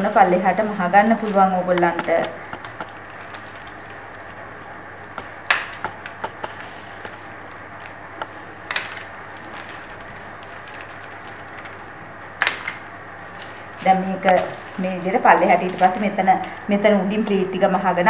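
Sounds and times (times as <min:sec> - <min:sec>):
handling ticks: 0:01.0 - 0:17.4.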